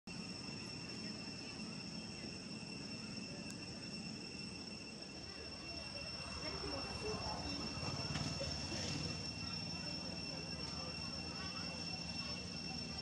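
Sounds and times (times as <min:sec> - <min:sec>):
faint outdoor background noise: 0:00.1 - 0:13.0
high-pitched insect chorus: 0:00.1 - 0:13.0.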